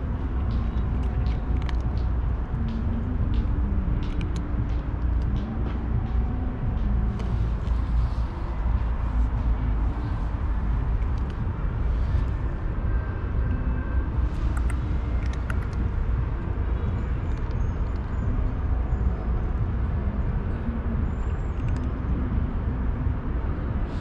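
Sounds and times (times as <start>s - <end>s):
outdoor background rumble: 0.0s - 24.0s.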